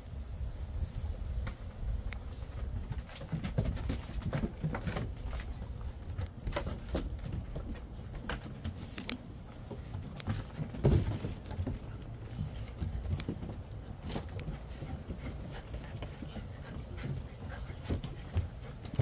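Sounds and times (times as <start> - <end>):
puppy paws pattering on wood: 1.1 - 19.0.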